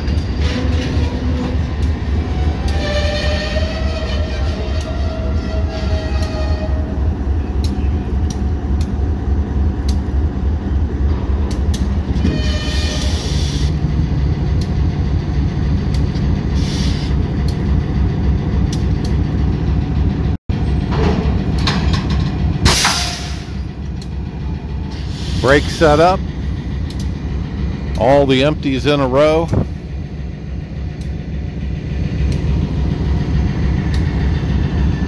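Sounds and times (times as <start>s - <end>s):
locomotive engine running: 0.0s - 35.0s.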